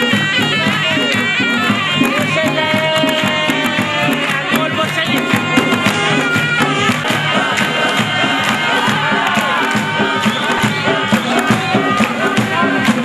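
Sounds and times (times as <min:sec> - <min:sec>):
quick steady drum beats: 0:00.0 - 0:13.0
wind instrument bending melody: 0:00.0 - 0:13.0.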